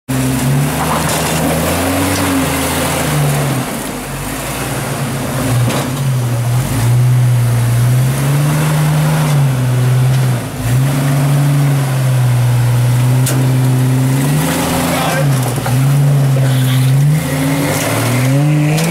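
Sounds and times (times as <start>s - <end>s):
buggy engine revving under load: 0.1s - 18.9s.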